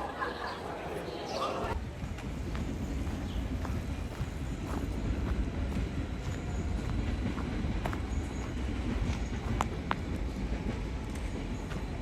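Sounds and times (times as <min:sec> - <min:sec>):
rail vehicle rumbling on track: 0:01.7 - 0:12.0.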